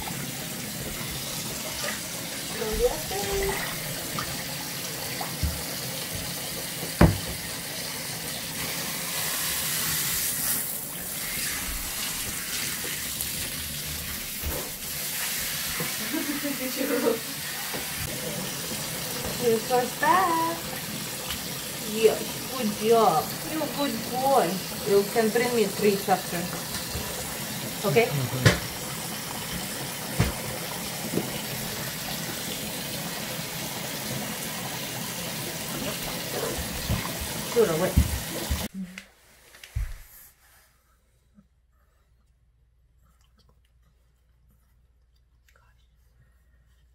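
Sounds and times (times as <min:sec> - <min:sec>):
tap water running into a bath: 0:00.0 - 0:38.7.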